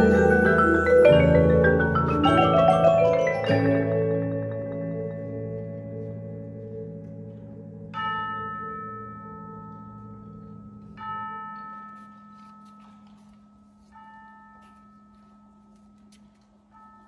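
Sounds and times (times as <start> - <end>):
mallet percussion chords: 0.0 - 15.8.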